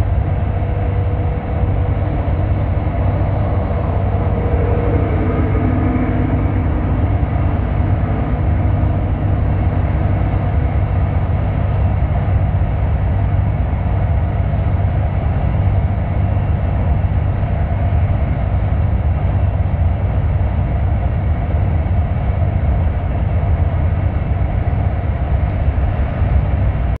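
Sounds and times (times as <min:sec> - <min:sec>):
engine and tyre rumble in cabin: 0:00.0 - 0:27.0.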